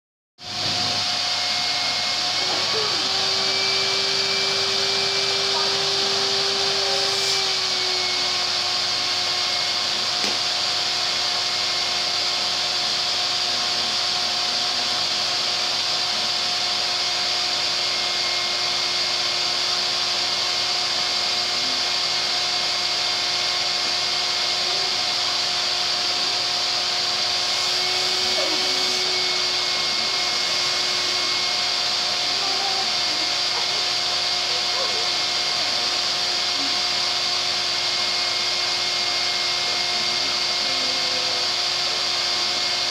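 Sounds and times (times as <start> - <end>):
vacuum cleaner running: 0.4 - 42.9.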